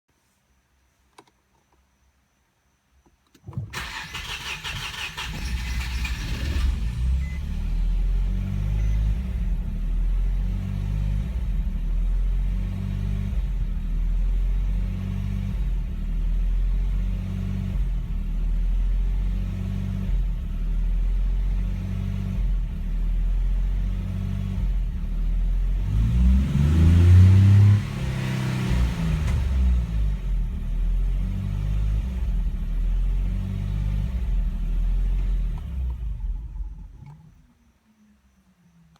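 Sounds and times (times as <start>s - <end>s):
car engine cranking on starter: 3.3s - 12.3s, 15.5s - 37.7s
car engine revving: 3.5s - 37.5s
car engine idling: 3.6s - 38.1s.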